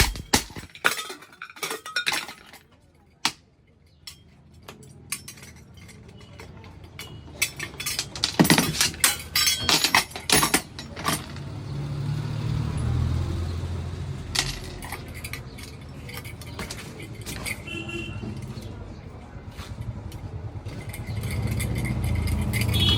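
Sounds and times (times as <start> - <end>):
metal clinks and knocks: 0.0 - 22.9.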